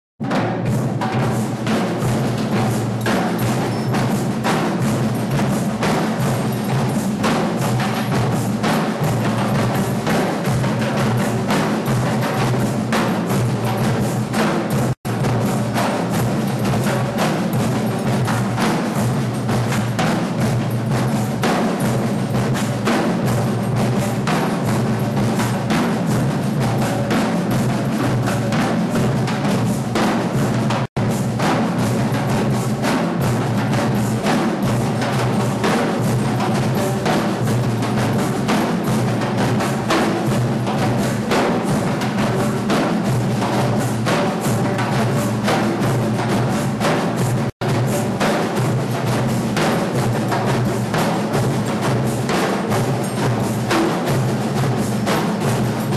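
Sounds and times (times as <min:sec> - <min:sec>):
percussion ensemble drumming: 0:00.2 - 0:55.9.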